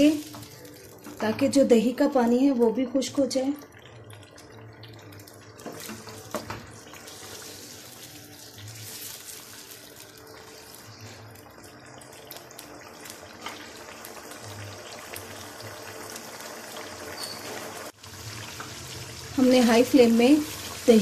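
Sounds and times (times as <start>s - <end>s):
chicken sizzling in a wok: 0.0s - 3.6s, 5.2s - 21.0s.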